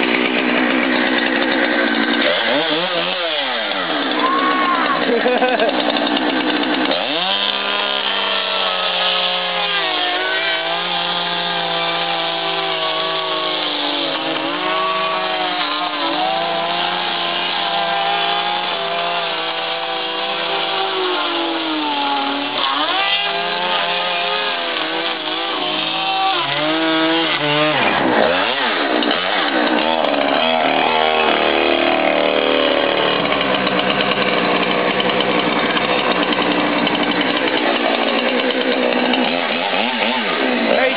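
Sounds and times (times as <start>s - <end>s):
chainsaw cutting at high revs: 0.0s - 40.9s.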